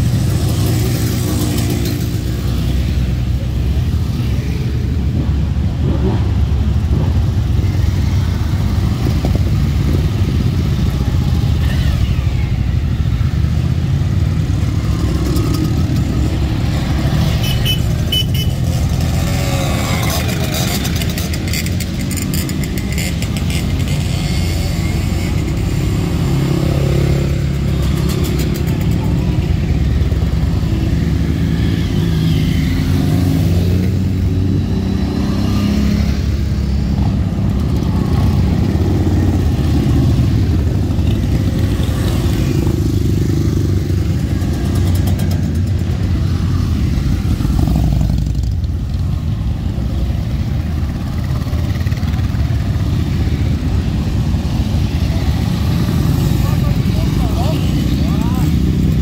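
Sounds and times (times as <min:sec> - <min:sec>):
motorcycles riding past: 0:00.0 - 0:59.0.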